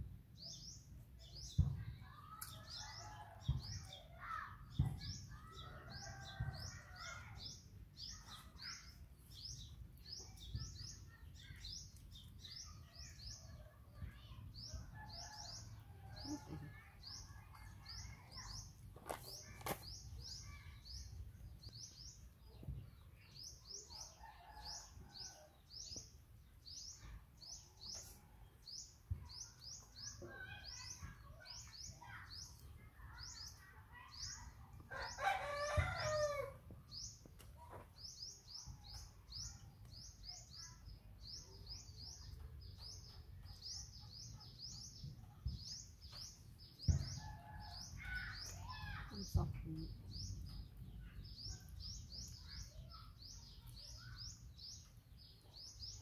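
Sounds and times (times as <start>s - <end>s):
faint background bird calls: 0.0s - 56.0s.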